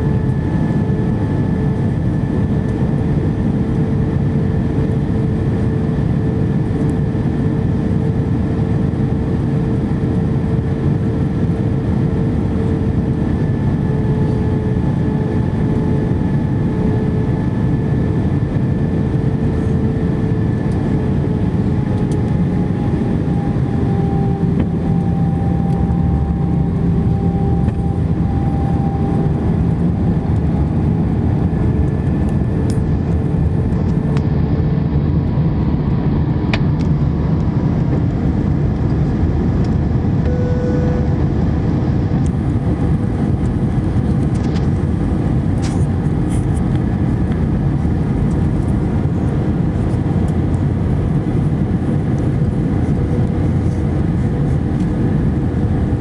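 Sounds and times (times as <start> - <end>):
aircraft cabin roar: 0.0 - 56.0
faint engine humming tones: 0.0 - 56.0.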